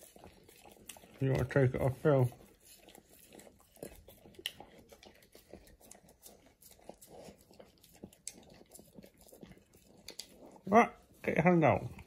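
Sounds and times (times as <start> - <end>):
dog licking and eating: 0.0 - 12.0.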